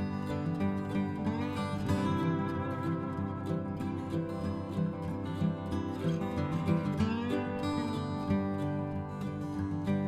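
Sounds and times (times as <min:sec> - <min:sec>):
plucked string instrumental music: 0:00.0 - 0:10.0.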